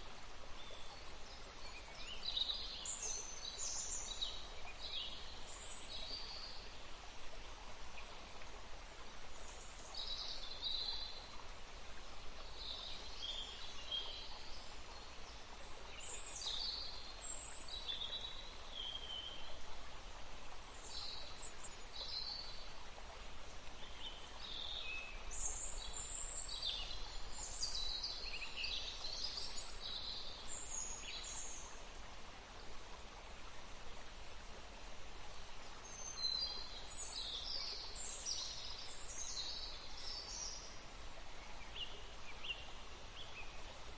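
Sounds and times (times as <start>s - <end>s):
running water hiss: 0.0s - 43.9s.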